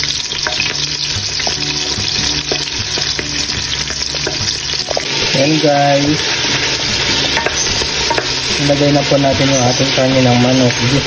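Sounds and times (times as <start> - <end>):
onion and garlic sizzling in oil: 0.0 - 11.0.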